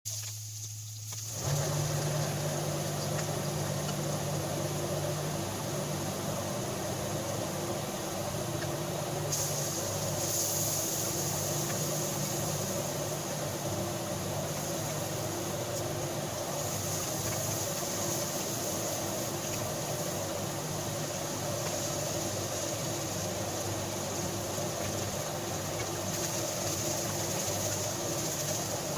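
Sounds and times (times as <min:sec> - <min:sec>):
constant hiss: 0:00.1 - 0:28.9
mechanical hum: 0:00.1 - 0:28.9.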